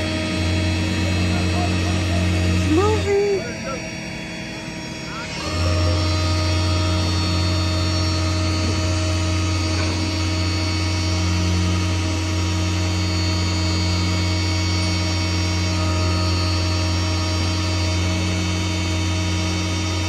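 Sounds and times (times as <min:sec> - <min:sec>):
steady whine: 0:00.0 - 0:20.0
winch mechanical hum: 0:00.0 - 0:20.0.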